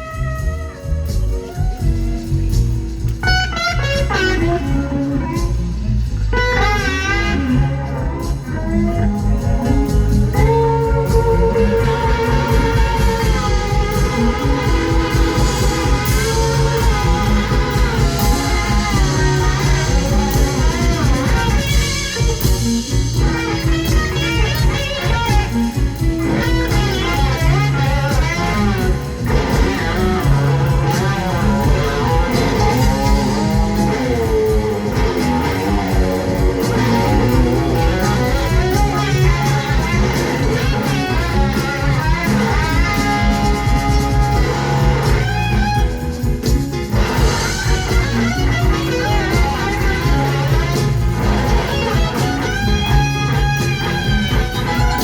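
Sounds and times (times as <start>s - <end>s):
electric guitar solo: 0.0s - 55.0s
live blues band playing: 0.0s - 55.0s.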